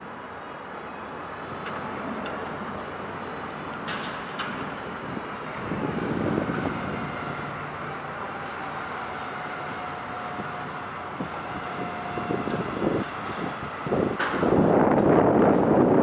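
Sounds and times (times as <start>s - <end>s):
distant traffic rumble: 0.6s - 15.2s.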